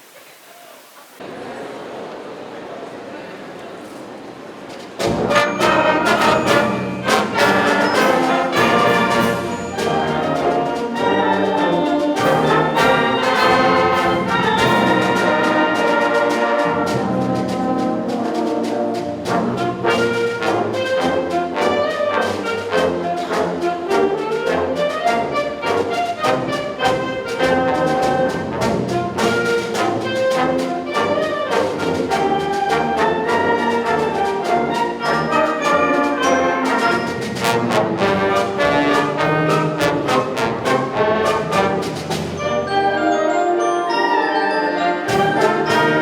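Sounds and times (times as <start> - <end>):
wind orchestra playing: 5.0 - 46.0.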